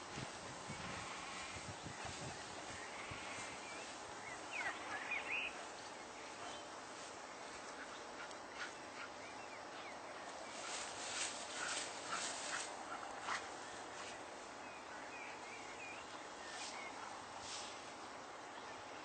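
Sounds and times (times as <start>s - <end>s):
open-air background hiss: 0.0s - 19.0s.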